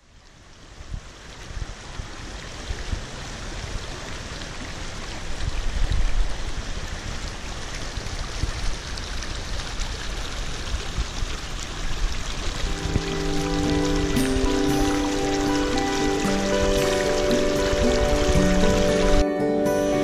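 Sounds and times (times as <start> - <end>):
stream rushing over rock: 0.0 - 20.0.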